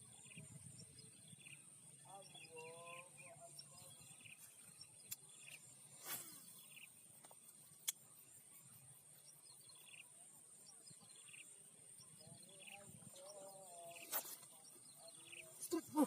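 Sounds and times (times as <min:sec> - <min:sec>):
faint chirps: 0:00.0 - 0:16.0
insects chirring: 0:00.0 - 0:16.0.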